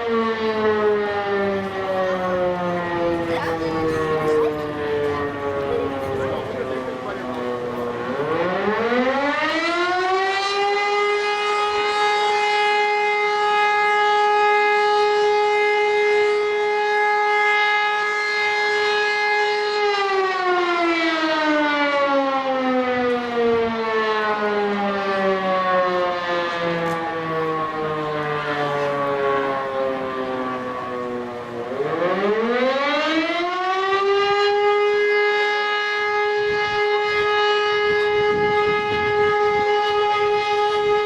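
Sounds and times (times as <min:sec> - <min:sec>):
siren wailing: 0:00.0 - 0:41.0.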